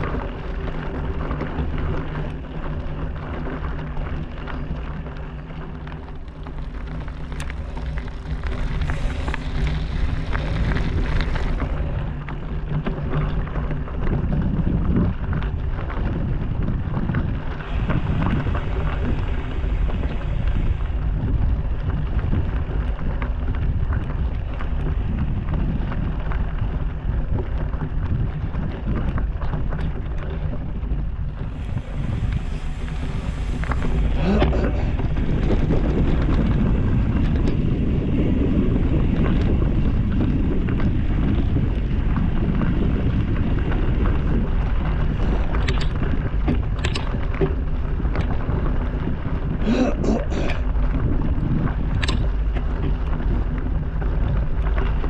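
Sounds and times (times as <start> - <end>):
bike rattling and knocking: 0.0 - 55.0
bike tyres on dirt trail: 0.0 - 55.0
wind rushing over microphone: 0.0 - 55.0.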